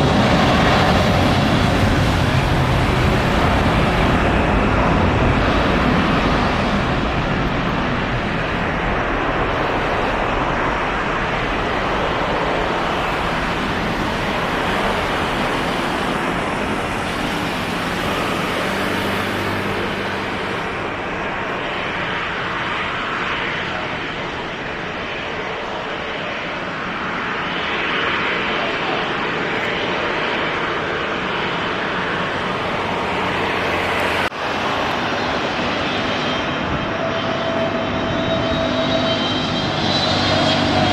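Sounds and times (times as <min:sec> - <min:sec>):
aircraft jet noise rushing: 0:00.0 - 0:40.9.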